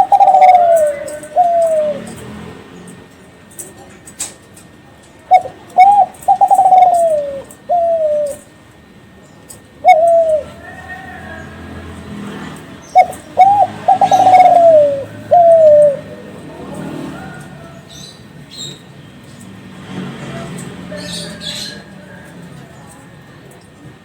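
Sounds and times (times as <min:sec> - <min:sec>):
dove cooing: 0:00.0 - 0:02.5, 0:05.3 - 0:08.9, 0:09.5 - 0:23.0.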